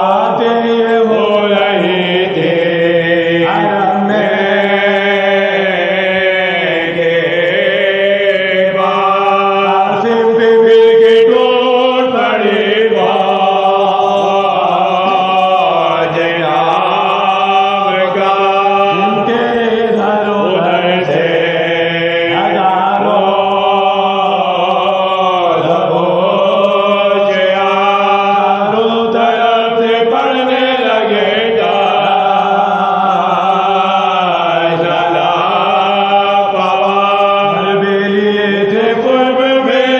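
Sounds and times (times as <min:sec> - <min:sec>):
men chanting a lament: 0:00.0 - 0:39.9.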